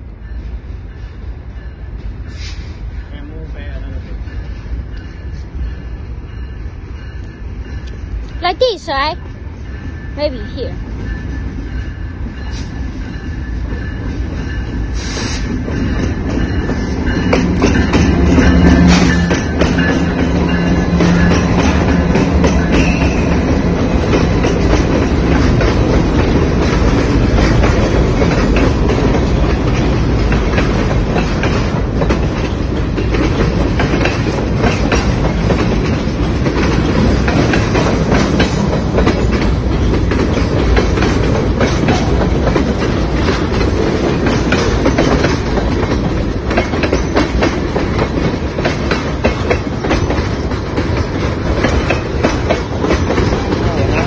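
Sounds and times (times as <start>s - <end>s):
diesel locomotive drone: 0.0s - 54.0s
train cars rumbling past: 0.0s - 54.0s
wheels clacking over rail joints: 7.0s - 54.0s.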